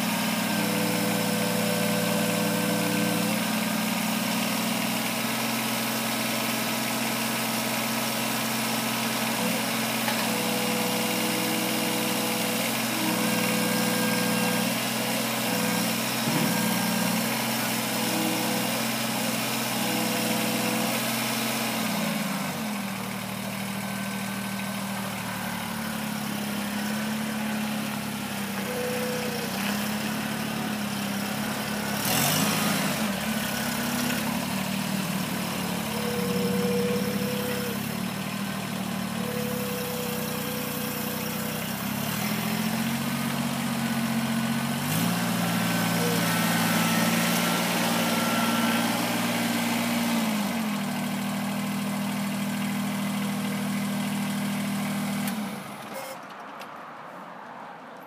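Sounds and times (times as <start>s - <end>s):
tractor diesel engine running: 0.0s - 56.7s.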